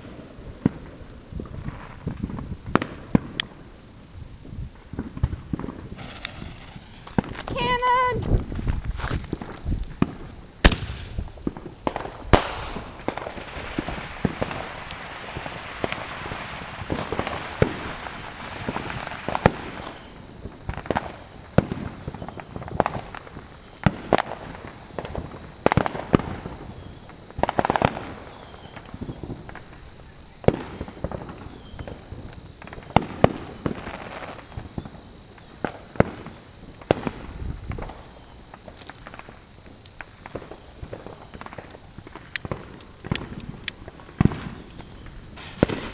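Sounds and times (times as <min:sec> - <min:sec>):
fireworks bangs: 0:00.0 - 0:03.6, 0:04.4 - 0:45.9
fireworks crackling: 0:00.0 - 0:45.9.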